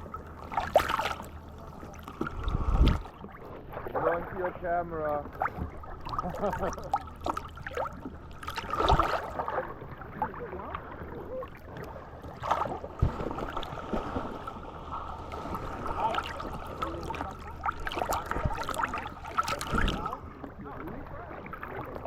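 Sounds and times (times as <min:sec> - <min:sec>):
faint steady hum: 0:00.0 - 0:22.0
water slapping against hull: 0:00.0 - 0:22.0.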